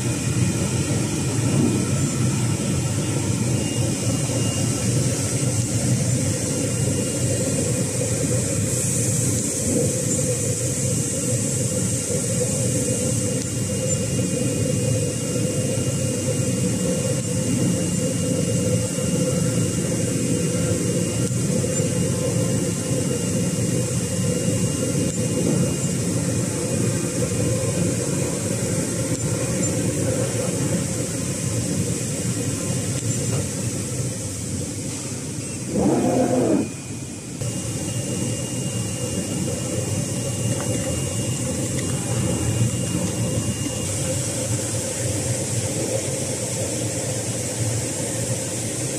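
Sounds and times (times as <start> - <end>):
faint high whine: 0.0 - 48.4.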